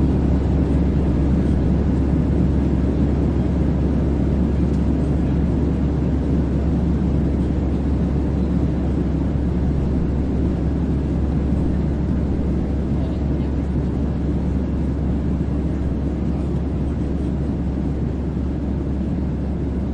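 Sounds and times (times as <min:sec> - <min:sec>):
airplane drone: 0:00.0 - 0:19.9.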